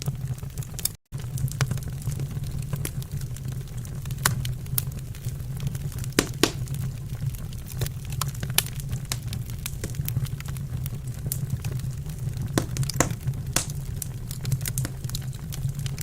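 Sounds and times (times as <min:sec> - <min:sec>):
low rumble of fire: 0:00.0 - 0:16.0
wood fire crackling: 0:00.0 - 0:16.0.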